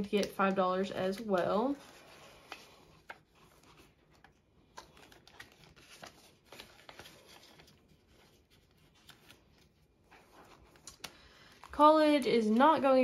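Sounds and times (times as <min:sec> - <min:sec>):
paper money rustling: 0:00.0 - 0:13.0.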